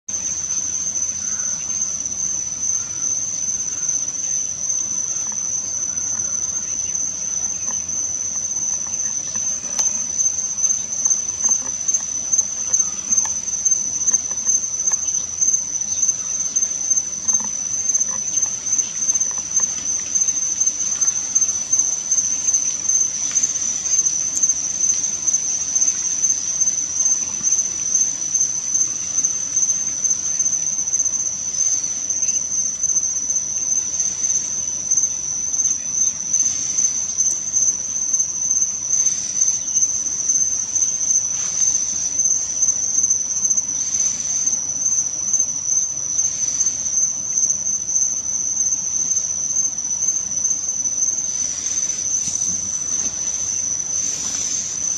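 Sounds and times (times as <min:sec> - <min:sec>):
crickets chirping: 0:00.1 - 0:54.9.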